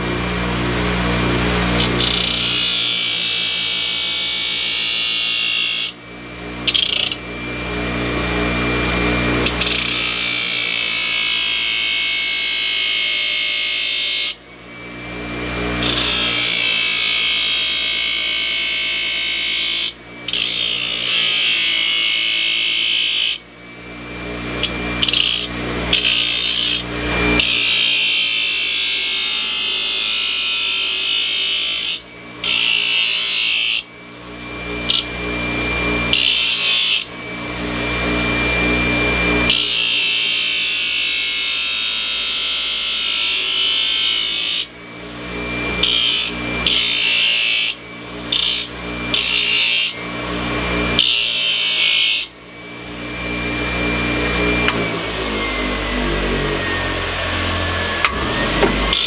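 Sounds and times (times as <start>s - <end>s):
power tool grinding: 0.0s - 59.0s.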